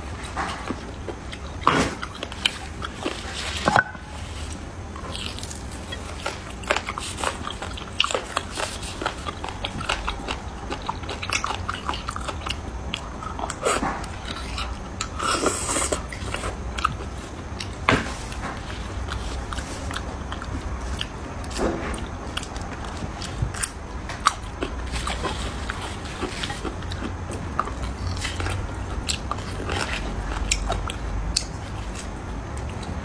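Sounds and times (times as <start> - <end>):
slurping and chewing bone marrow: 0.1 - 33.0.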